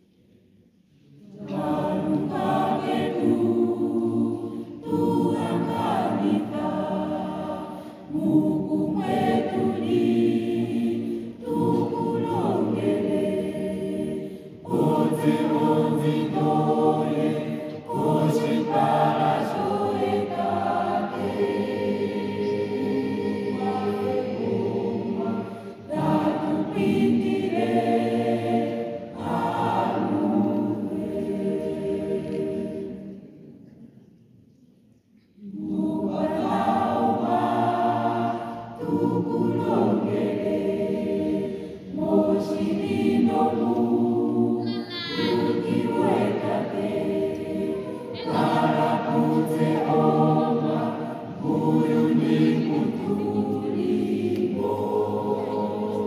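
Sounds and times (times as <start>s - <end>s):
mixed choir singing: 0.0s - 34.2s, 35.0s - 56.0s.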